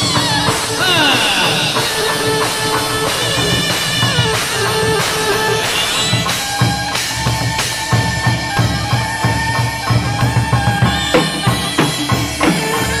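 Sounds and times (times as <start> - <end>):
fast dense drumming: 0.0 - 13.0
held instrumental notes: 0.0 - 13.0
sharp percussive strikes: 0.0 - 13.0.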